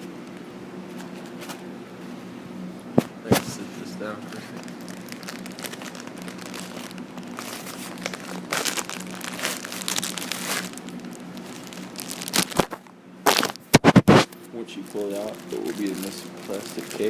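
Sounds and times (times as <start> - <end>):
packaging crinkling and rustling: 3.3 - 17.0.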